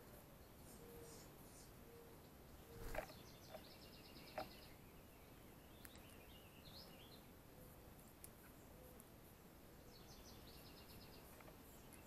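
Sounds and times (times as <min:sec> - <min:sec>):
songbirds trilling and chirping: 0:00.0 - 0:12.0.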